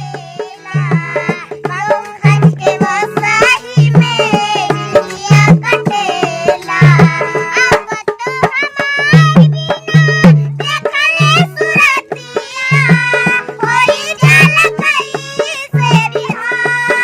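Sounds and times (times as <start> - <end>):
hand drum beat: 0.0 - 17.0
person singing: 0.0 - 17.0.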